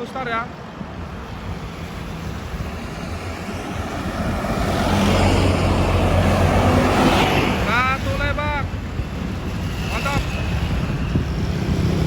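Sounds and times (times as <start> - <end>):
bus engine drone: 0.6 - 12.0
tyre and air noise: 0.7 - 12.0.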